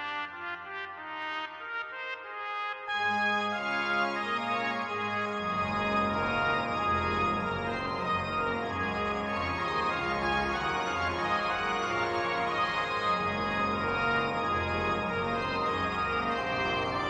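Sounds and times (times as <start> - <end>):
pipe organ chords: 2.9 - 17.0.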